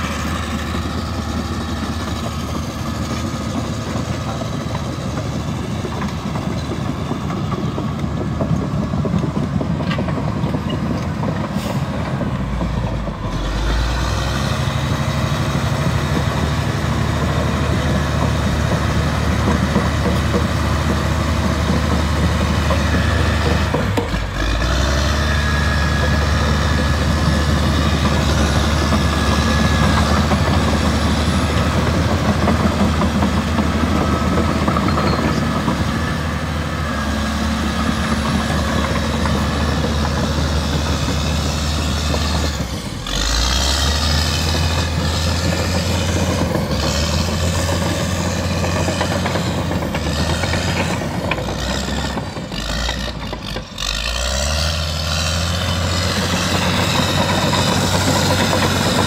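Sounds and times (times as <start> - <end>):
dozer diesel engine running: 0.0 - 59.0.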